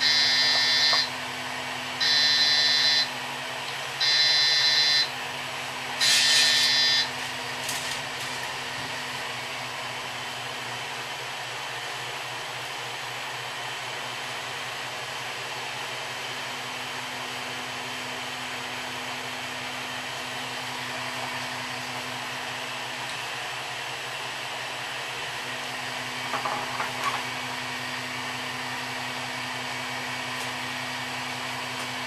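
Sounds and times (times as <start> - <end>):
cooling fans whirring: 0.0 - 32.0.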